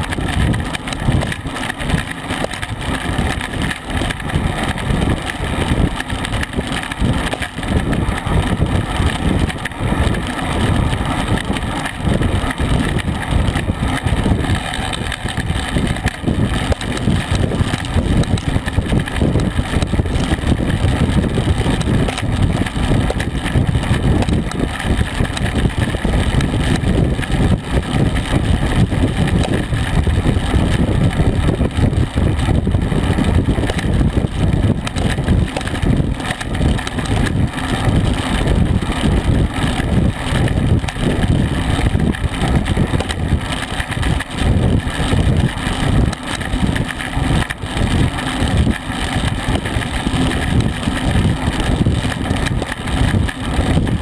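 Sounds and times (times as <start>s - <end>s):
tyre and road noise: 0.0s - 54.0s
wind buffeting microphone: 0.0s - 54.0s.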